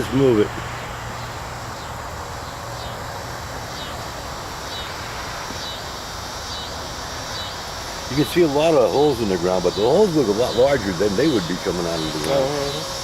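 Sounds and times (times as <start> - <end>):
insect hiss: 0.0 - 13.0.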